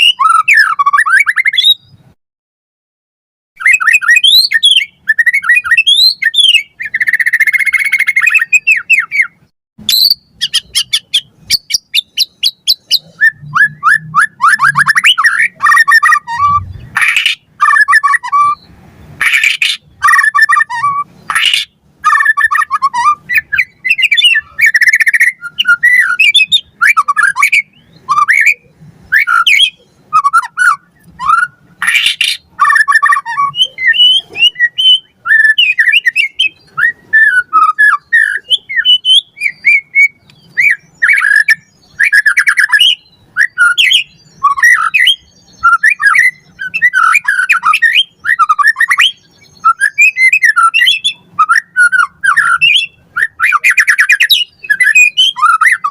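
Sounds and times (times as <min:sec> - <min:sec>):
bird singing whistled phrases: 0:00.0 - 0:02.0, 0:03.6 - 0:55.9
harsh rasping bird notes: 0:03.6 - 0:49.0.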